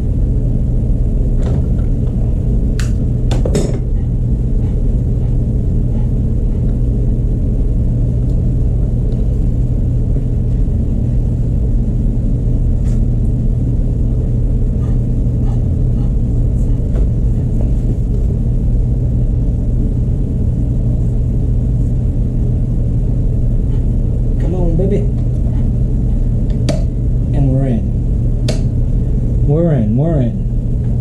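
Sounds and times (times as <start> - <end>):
low rumbling drone: 0.0 - 31.0.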